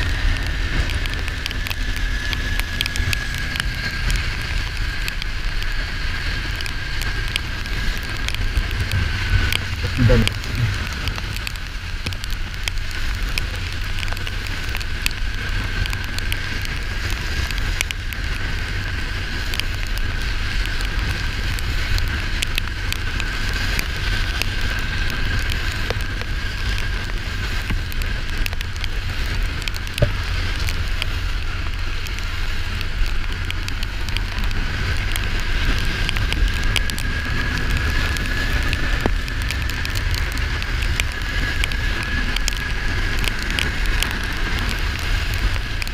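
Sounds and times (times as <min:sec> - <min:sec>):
crackles and ticks: 0:00.0 - 0:45.9
motorcycle engine cruising: 0:00.0 - 0:45.9
wind rumble on microphone: 0:00.0 - 0:45.9.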